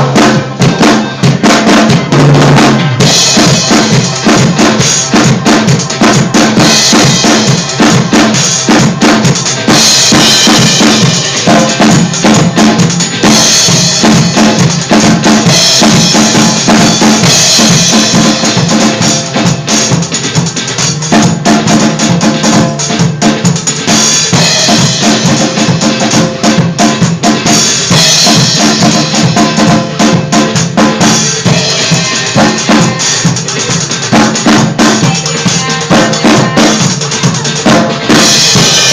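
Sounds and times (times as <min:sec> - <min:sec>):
drum kit played fast: 0:00.0 - 0:38.9
recorded song: 0:00.0 - 0:38.9.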